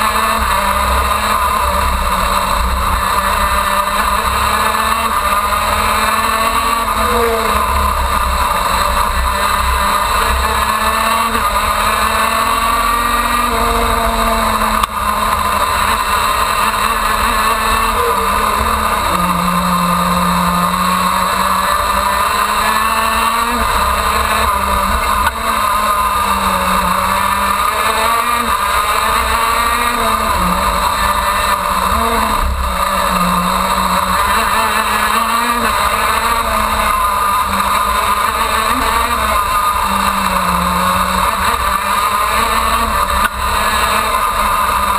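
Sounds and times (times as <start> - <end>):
kart two-stroke engine racing: 0.0 - 44.9.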